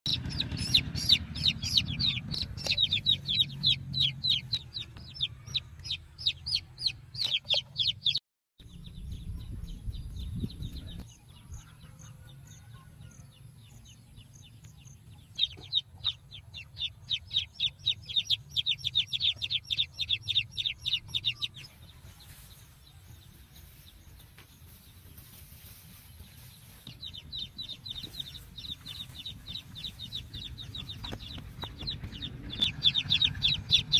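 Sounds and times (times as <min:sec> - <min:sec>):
chick peeping rapidly: 0:00.1 - 0:33.9.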